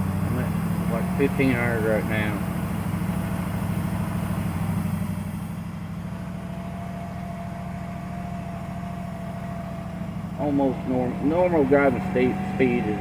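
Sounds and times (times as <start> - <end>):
car engine fast idle: 0.0 - 13.0.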